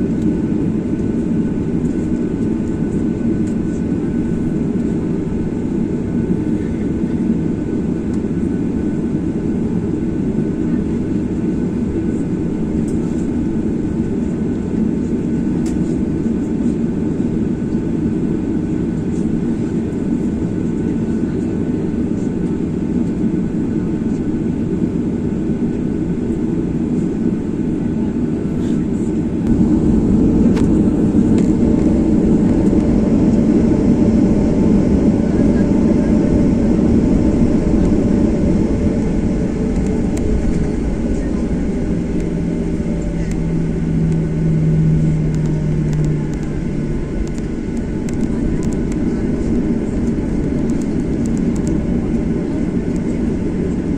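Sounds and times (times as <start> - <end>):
faint steady whine: 0.0 - 53.9
jet engine and airflow roar: 0.0 - 53.9.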